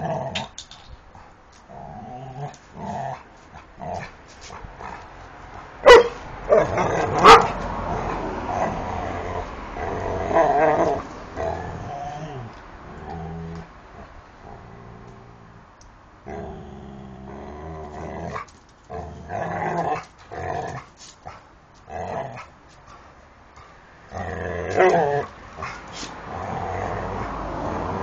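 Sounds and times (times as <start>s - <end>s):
dogs growling: 0.0s - 22.6s, 23.6s - 28.0s.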